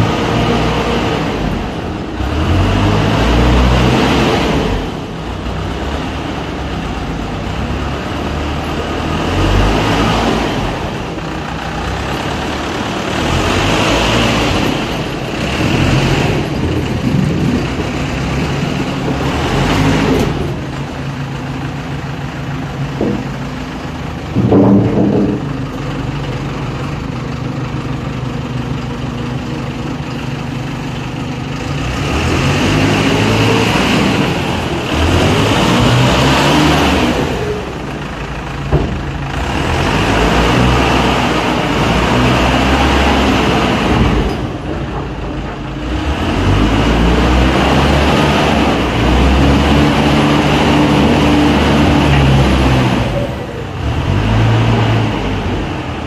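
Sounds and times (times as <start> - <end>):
loader diesel engine running: 0.0 - 56.0.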